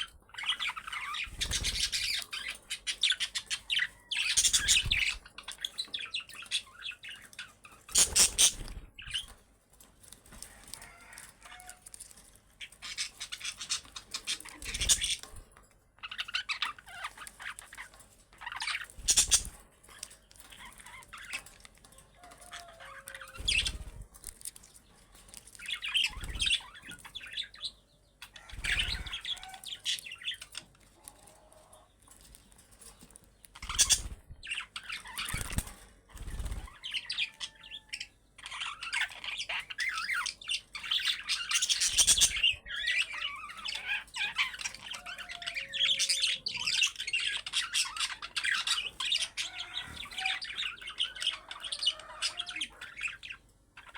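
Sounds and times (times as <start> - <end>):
budgerigars chirping: 0.0 - 9.4, 12.6 - 15.3, 16.0 - 21.6, 22.2 - 24.4, 25.5 - 30.7, 33.5 - 53.9.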